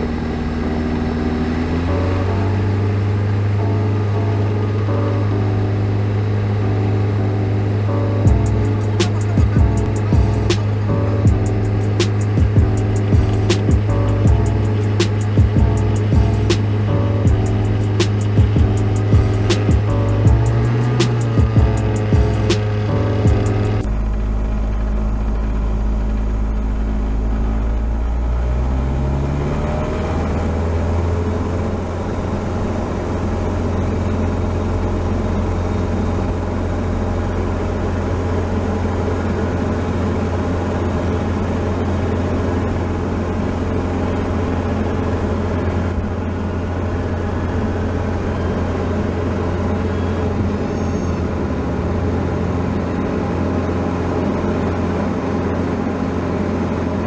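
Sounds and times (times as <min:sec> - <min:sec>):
propeller aircraft engine: 0:00.0 - 0:57.0.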